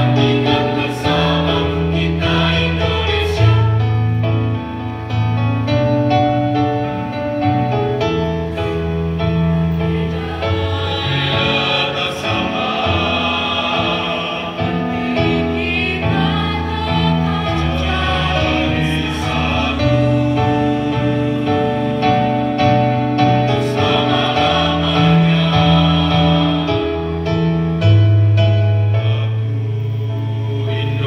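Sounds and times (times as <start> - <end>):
mixed choir singing: 0.0 - 4.7, 6.9 - 31.0.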